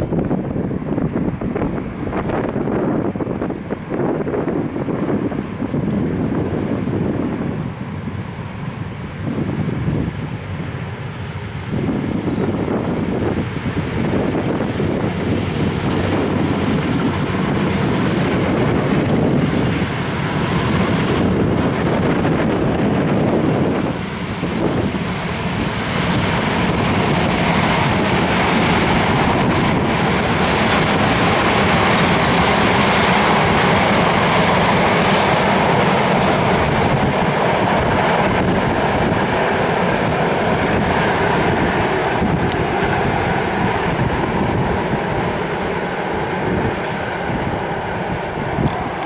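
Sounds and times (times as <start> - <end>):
freight train rumbling past: 0.0 - 49.0.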